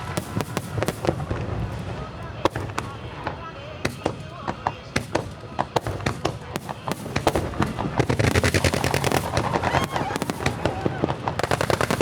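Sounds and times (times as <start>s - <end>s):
fireworks crackling: 0.0s - 12.0s
fireworks shells bursting: 0.0s - 12.0s.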